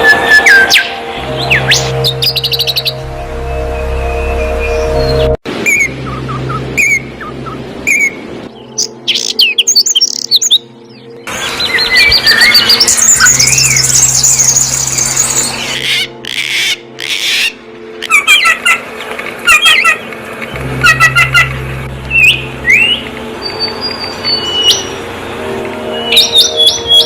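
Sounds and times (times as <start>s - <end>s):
birds chirping and calling: 0.0s - 27.0s.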